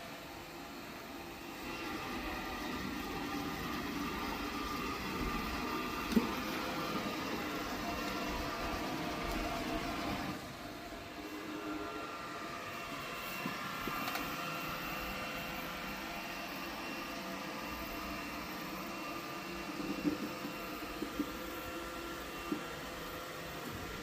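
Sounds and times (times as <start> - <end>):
robot vacuum cleaner whirring: 0.0 - 24.0.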